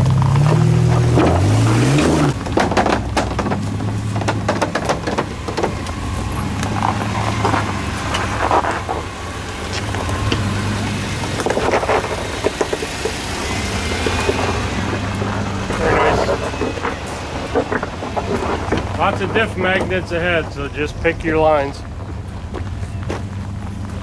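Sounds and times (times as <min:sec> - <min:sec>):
jeep engine revving and running: 0:00.0 - 0:24.0
tyres clicking on rock: 0:00.0 - 0:24.0.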